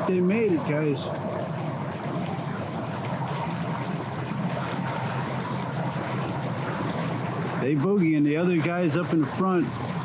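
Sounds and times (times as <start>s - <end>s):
boat engines humming: 0.0s - 10.0s
water noise: 0.0s - 10.0s.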